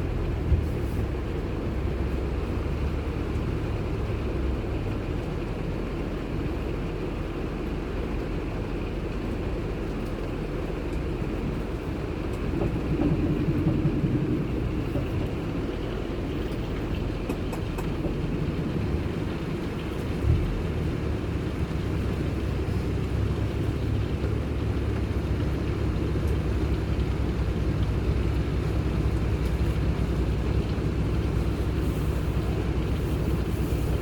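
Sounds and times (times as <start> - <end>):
moving vehicle rumble: 0.0 - 34.0.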